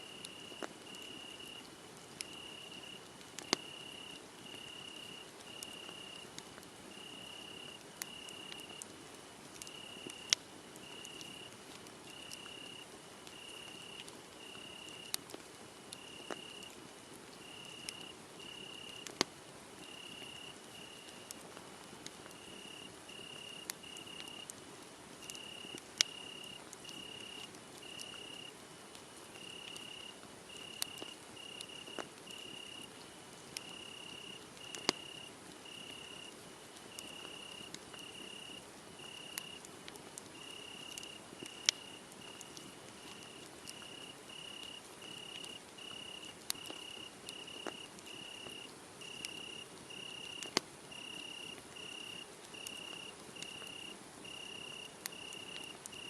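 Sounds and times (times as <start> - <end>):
crickets chirping: 0.0 - 1.6, 2.2 - 6.3, 6.9 - 8.8, 9.7 - 11.5, 12.1 - 15.2, 16.0 - 16.7, 17.4 - 19.1, 19.8 - 21.2, 22.4 - 24.4, 25.2 - 28.5, 29.4 - 32.9, 33.6 - 36.3, 37.0 - 39.6, 40.4 - 56.0
wood fire crackling and popping: 0.2 - 56.0.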